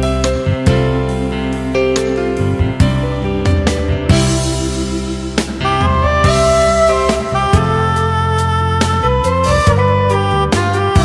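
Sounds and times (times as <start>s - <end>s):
steady bass line: 0.0s - 11.0s.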